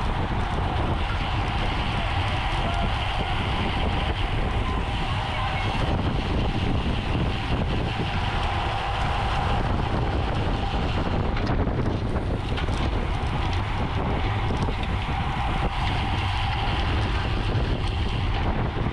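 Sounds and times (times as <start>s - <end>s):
tyres rumbling on road: 0.0s - 18.9s
wind buffeting microphone: 0.0s - 18.9s.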